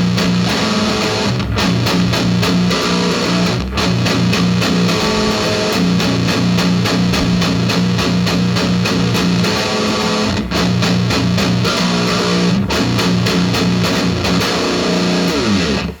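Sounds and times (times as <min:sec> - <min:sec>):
heavy electric guitar riff: 0:00.0 - 0:16.0.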